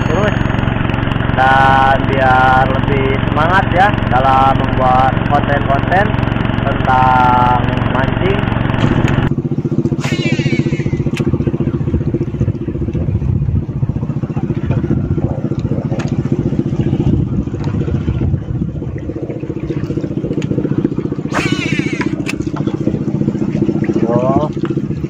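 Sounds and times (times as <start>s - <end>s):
small boat engine puttering: 0.0s - 25.0s.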